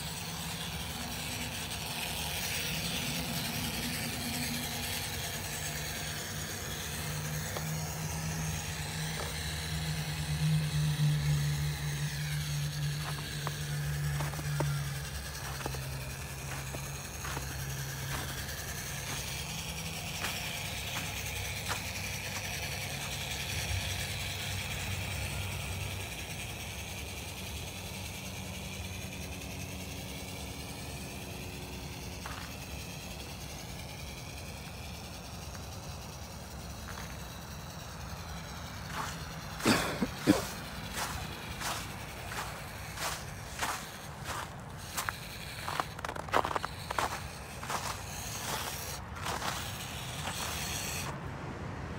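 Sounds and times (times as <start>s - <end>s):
rc truck motor whining: 0.0s - 51.9s.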